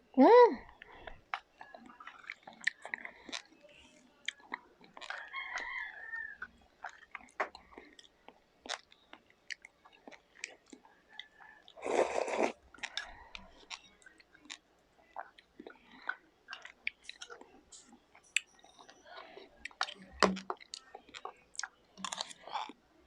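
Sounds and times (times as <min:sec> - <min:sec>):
chewing and mouth noises: 0:00.7 - 0:22.8.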